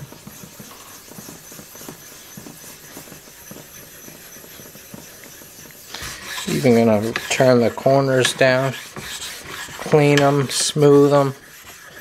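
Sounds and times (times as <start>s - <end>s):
stone rubbing on whetstone: 0.0s - 12.0s.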